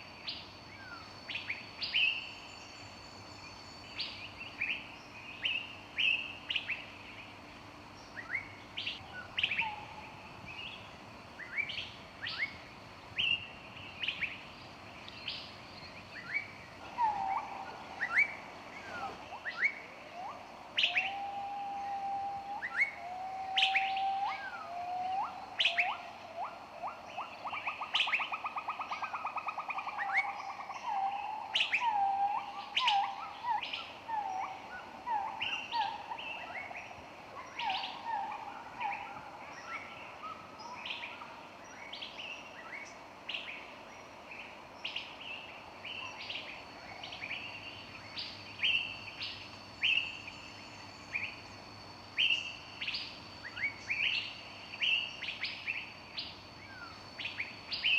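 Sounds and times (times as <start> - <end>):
lower whistled bird song: 0.0 - 57.9
songbirds chirping: 0.0 - 57.9.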